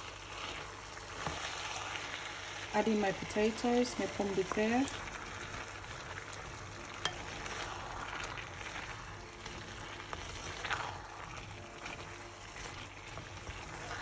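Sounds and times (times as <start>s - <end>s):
meat filling sizzling in pan: 0.0s - 14.0s.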